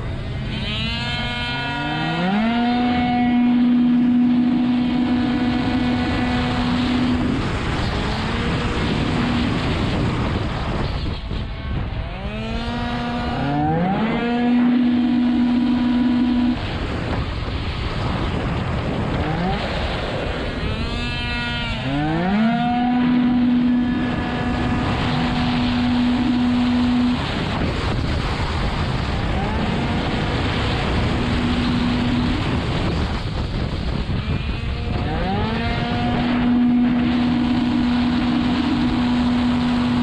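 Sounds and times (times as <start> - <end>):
wind rush on microphone: 0.0 - 40.0
two-stroke scooter engine: 2.1 - 16.9, 19.3 - 40.0.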